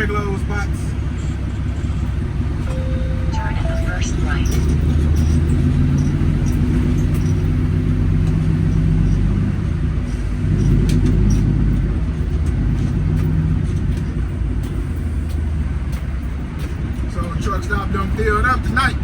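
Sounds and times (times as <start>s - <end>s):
diesel truck engine drone: 0.0s - 19.0s.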